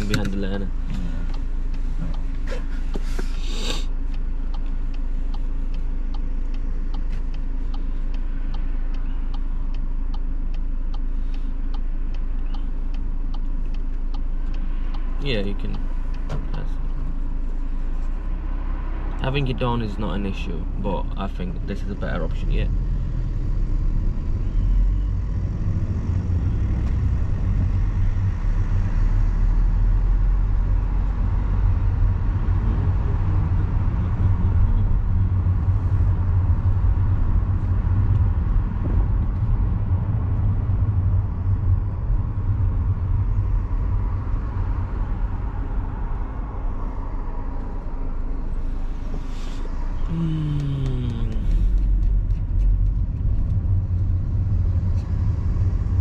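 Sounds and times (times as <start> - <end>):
car engine and tyres rumble: 0.0 - 56.0.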